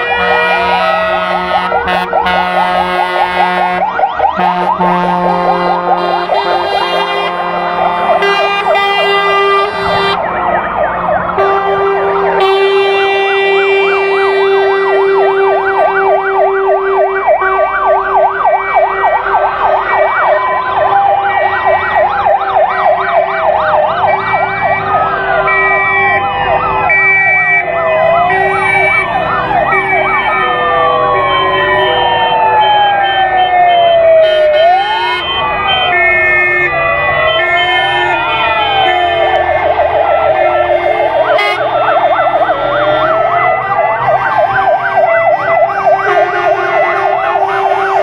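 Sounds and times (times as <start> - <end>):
steady horn tones: 0.0 - 21.8, 24.5 - 48.0
two-tone horn alternating: 0.0 - 21.8, 24.5 - 48.0
fire engine sirens: 0.0 - 48.0.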